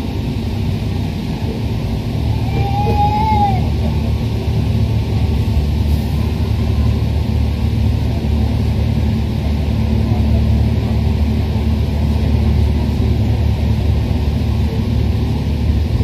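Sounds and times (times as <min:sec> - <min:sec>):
train rumbling through tunnel: 0:00.0 - 0:16.0.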